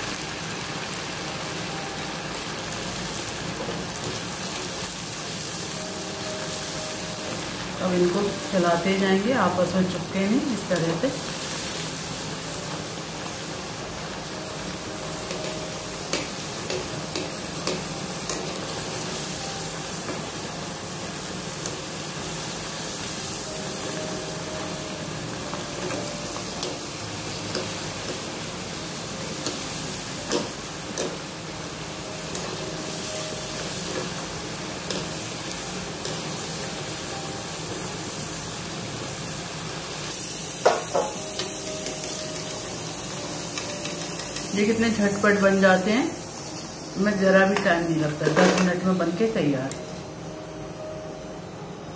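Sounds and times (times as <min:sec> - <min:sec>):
fries sizzling in hot oil: 0:00.0 - 0:50.9.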